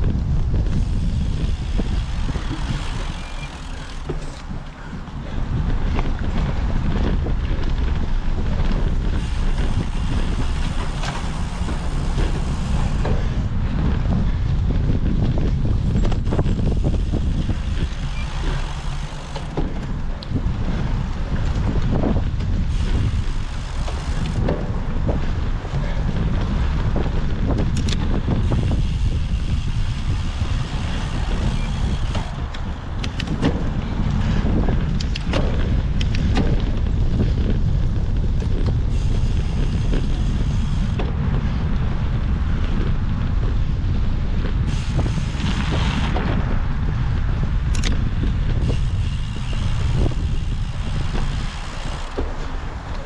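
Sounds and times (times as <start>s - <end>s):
bike clicks and knocks: 0.0s - 53.0s
steady low rumble: 0.0s - 53.0s
wind buffeting microphone: 0.0s - 53.0s.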